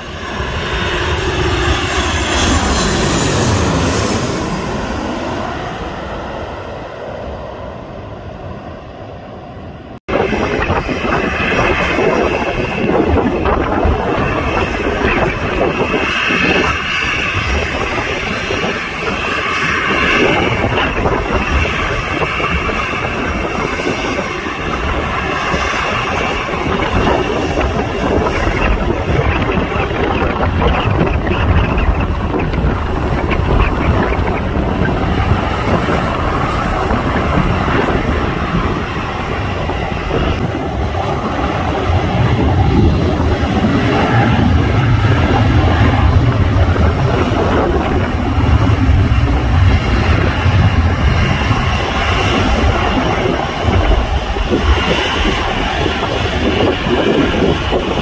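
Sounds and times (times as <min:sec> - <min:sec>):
airliner engine rush and whine: 0:00.0 - 0:58.0
wind rumbling on microphone: 0:00.0 - 0:58.0.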